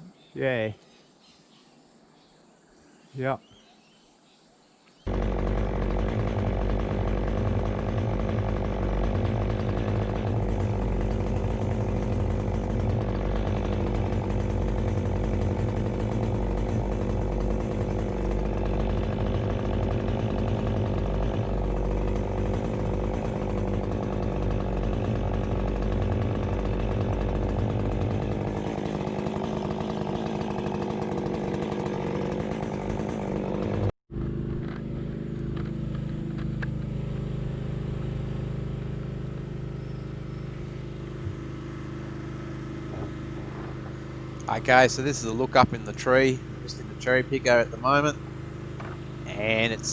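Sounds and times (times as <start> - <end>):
chainsaw engine running: 5.1 - 49.9.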